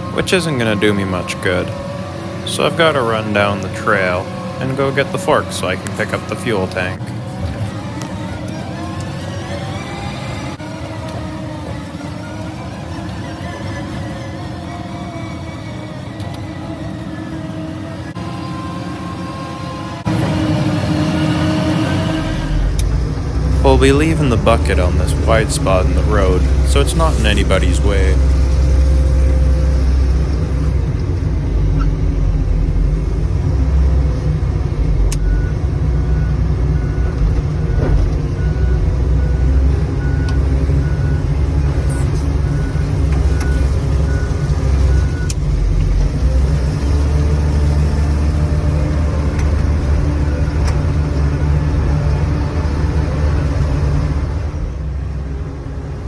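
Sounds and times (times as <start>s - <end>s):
loader engine running: 0.0s - 56.0s.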